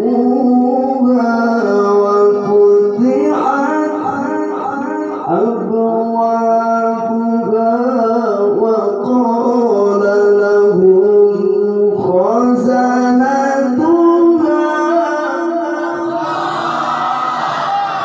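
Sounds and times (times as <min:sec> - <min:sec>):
man chanting through loudspeakers: 0:00.0 - 0:16.9.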